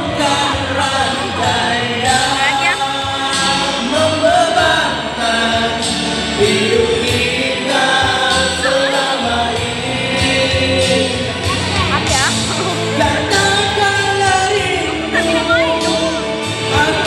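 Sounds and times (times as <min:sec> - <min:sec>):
men singing into microphones: 0:00.0 - 0:17.0.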